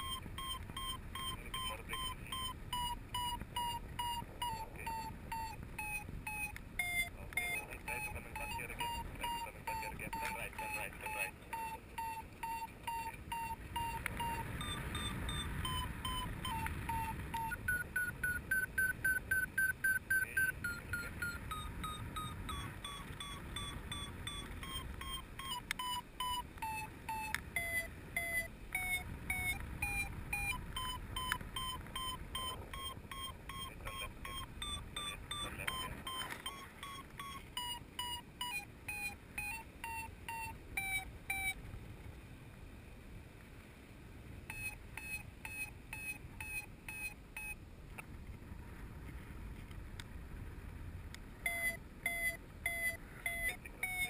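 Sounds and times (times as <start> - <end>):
variometer beeping: 0.0 - 41.6, 44.4 - 47.7, 51.4 - 54.0.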